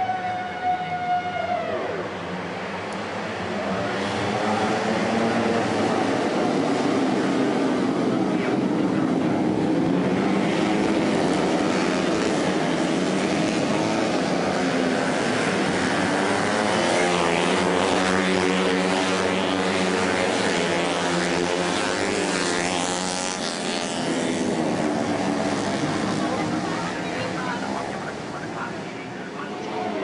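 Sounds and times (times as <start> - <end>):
racing motorcycle engines revving: 0.0 - 30.0.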